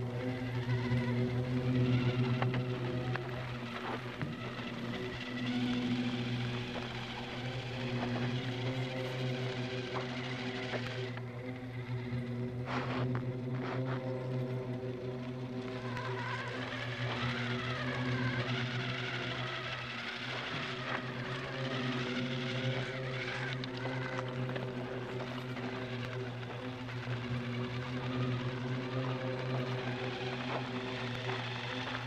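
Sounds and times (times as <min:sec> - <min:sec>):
toy motor humming and whining: 0:00.0 - 0:32.0.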